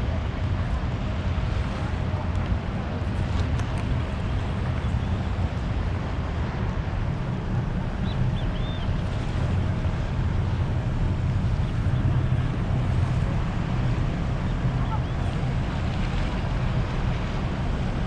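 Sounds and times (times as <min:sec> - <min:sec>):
sea water washing: 0:00.0 - 0:18.0
wind buffeting microphone: 0:00.0 - 0:18.0.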